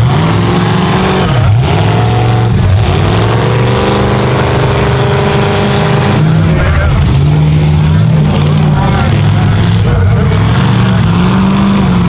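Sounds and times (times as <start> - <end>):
truck engines revving hard: 0.0 - 12.0.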